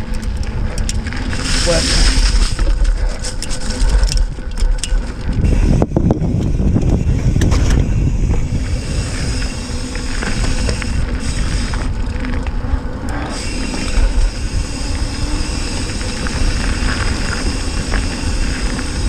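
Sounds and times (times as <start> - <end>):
bike clicks and rattles: 0.0 - 19.0
tyres rumbling over dirt: 0.0 - 19.0
wind buffeting microphone: 0.0 - 19.0.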